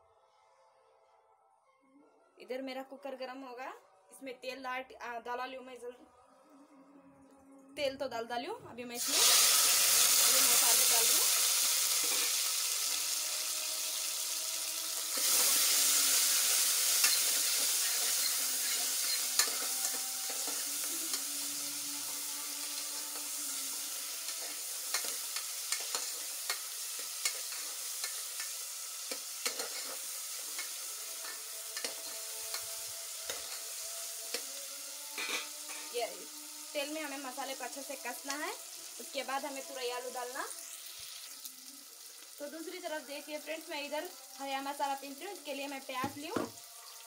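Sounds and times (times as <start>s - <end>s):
vegetables sizzling in hot oil: 9.0s - 47.0s.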